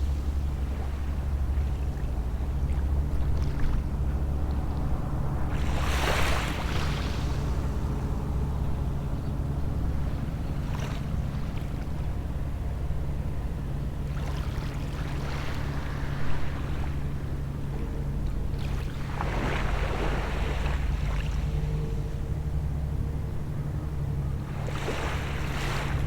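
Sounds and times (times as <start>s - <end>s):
distant boat engine hum: 0.0s - 26.0s.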